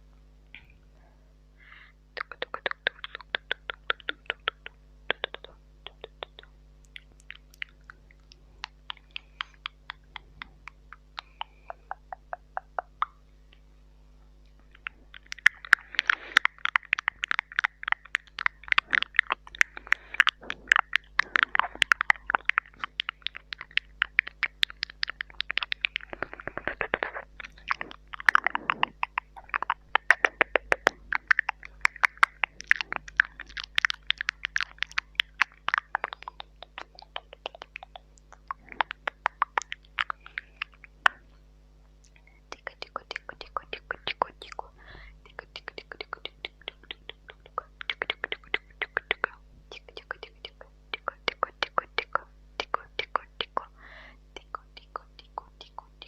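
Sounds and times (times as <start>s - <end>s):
faint electrical hum: 0.0s - 56.0s
wet mouth clicks and smacks: 2.2s - 13.7s, 14.5s - 53.8s, 54.4s - 56.0s.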